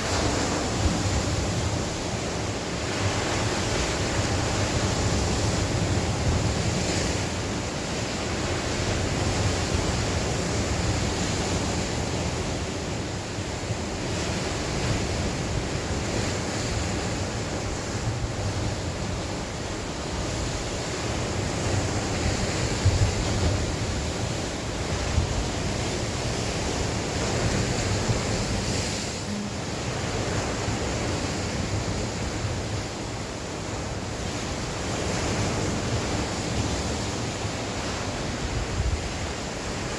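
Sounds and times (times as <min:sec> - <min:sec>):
sea waves breaking on shore: 0:00.0 - 0:39.9
wind buffeting the microphone: 0:00.0 - 0:39.9.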